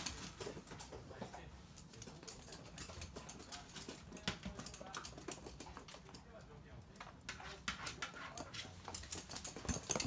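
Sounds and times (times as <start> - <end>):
dog claws clicking on wooden floor: 1.8 - 10.0.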